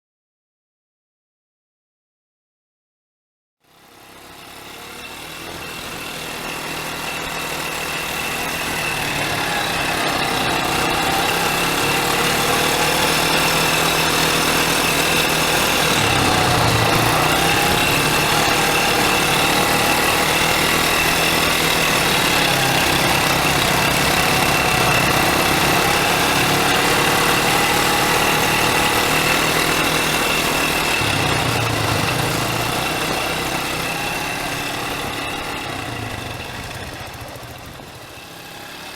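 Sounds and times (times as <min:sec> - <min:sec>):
quad bike engine running: 0:03.6 - 0:38.9.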